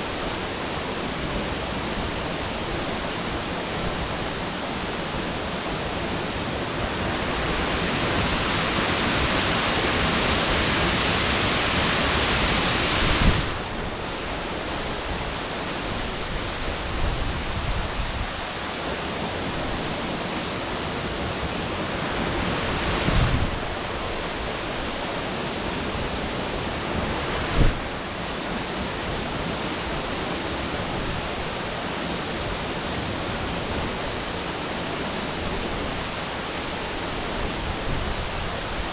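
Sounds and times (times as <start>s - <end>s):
waterfall rushing: 0.1s - 17.5s, 18.4s - 38.9s.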